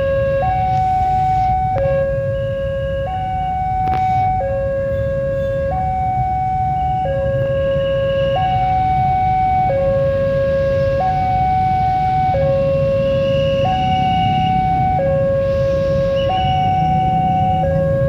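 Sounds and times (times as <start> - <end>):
idling traffic rumble: 0.0 - 18.0
level crossing two-tone alarm: 0.0 - 18.0.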